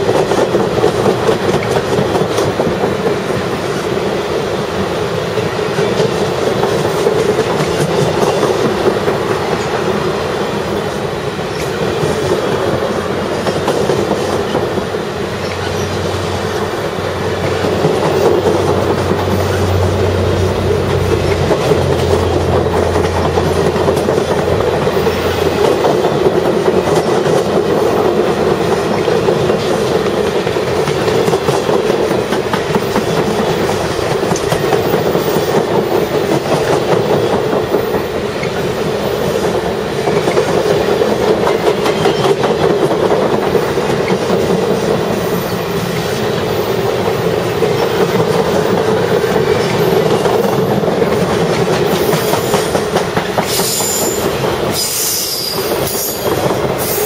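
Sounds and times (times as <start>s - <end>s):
train wheels clicking over rail joints: 0.0s - 57.0s.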